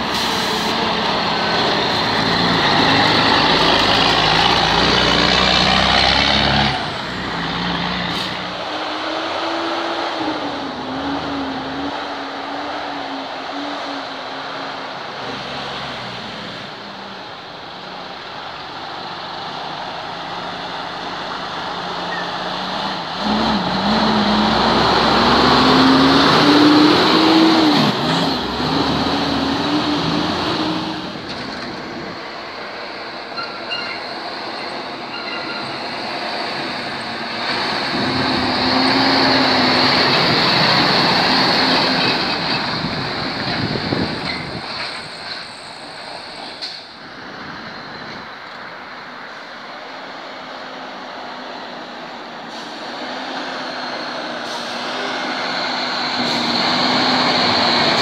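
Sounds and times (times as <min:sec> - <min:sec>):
trucks driving past: 0:00.0 - 0:58.0
tyre and road noise: 0:00.0 - 0:58.0.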